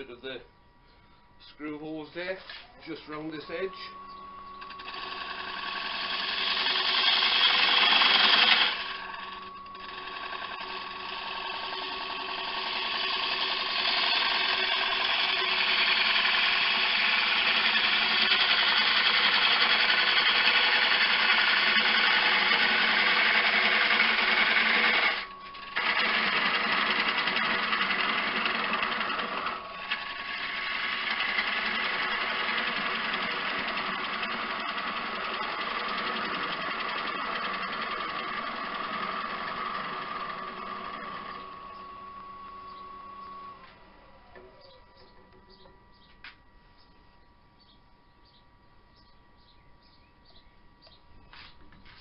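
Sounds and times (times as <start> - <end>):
wood lathe tool cutting: 2.9 - 45.3.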